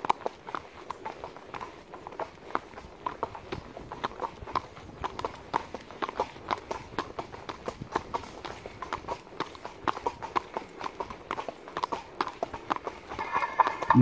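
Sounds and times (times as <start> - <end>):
horse hooves clip-clopping: 0.0 - 14.0.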